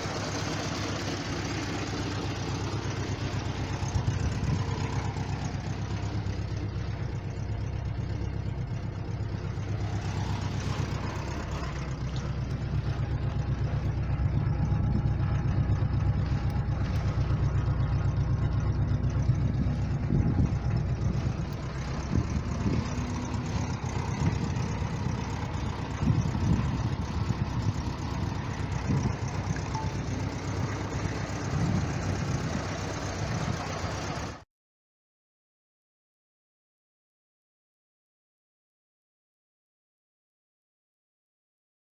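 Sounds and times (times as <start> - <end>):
car engine idling: 0.0 - 34.4.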